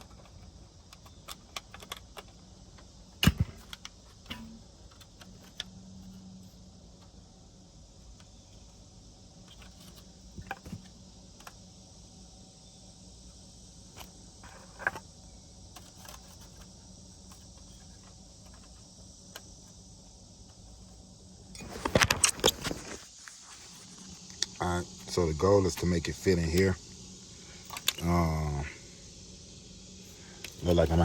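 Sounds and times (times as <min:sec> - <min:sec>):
crickets chirring: 0:00.0 - 0:31.0.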